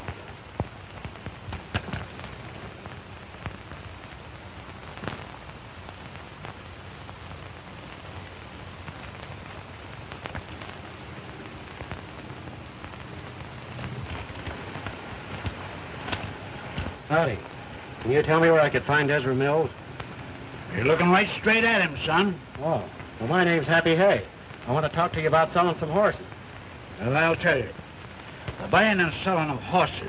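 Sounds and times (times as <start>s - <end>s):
crackles and pops: 0.0s - 30.0s
old film soundtrack hiss: 0.0s - 30.0s.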